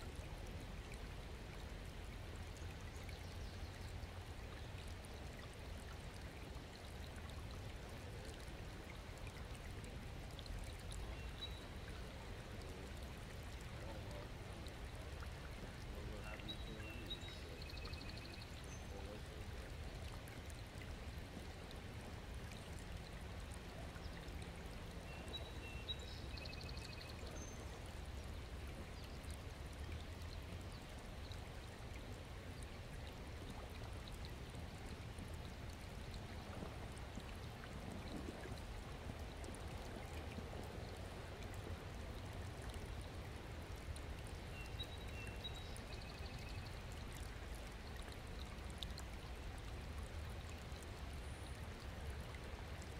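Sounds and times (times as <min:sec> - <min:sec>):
stream trickling over stones: 0:00.0 - 0:52.9.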